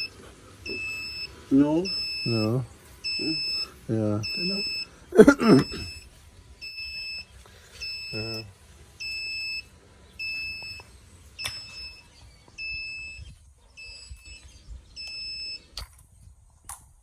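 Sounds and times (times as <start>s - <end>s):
two-tone alarm beeping: 0.0s - 5.0s, 5.6s - 15.7s.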